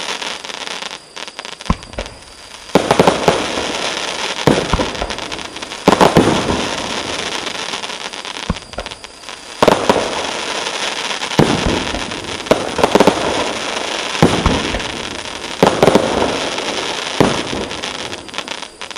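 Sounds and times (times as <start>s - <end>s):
crackling fireworks bursts: 0.0s - 18.9s
fireworks reports: 0.0s - 18.9s.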